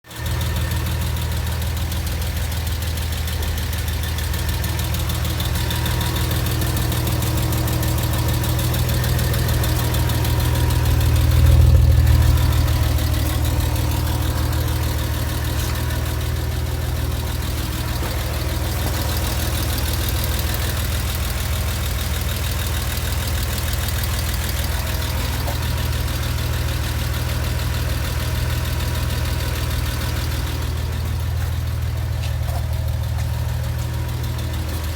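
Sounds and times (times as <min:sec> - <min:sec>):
car engine idling: 0:00.0 - 0:34.9
rapid engine ticking: 0:00.0 - 0:34.9.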